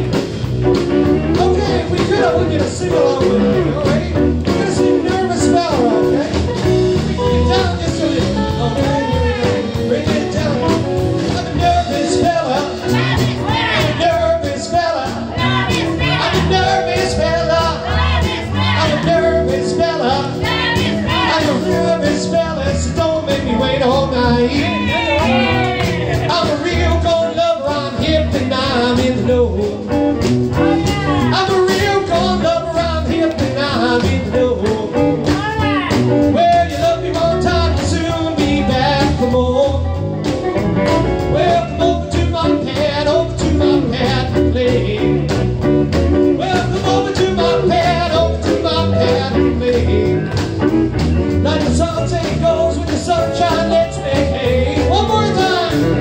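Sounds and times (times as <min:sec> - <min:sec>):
drums: 0:00.0 - 0:56.0
electric guitar: 0:00.0 - 0:56.0
man singing into a microphone: 0:01.2 - 0:40.0, 0:41.2 - 0:45.6, 0:46.3 - 0:50.4, 0:51.4 - 0:56.0.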